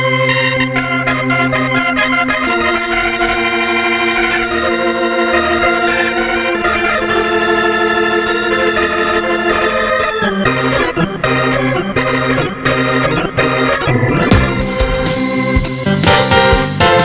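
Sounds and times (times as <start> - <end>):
organ-like chords: 0.0 - 17.0.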